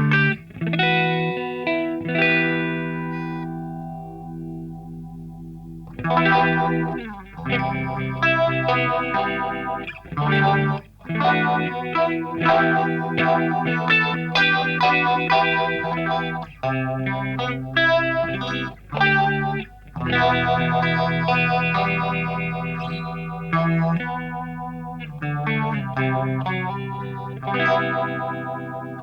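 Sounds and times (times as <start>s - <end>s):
distorted electric guitar with phaser: 0.0s - 29.0s.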